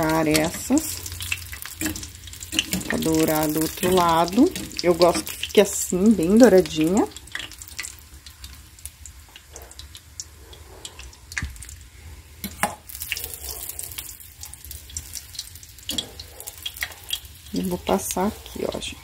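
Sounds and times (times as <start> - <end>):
oil crackling and sizzling: 0.0 - 19.0.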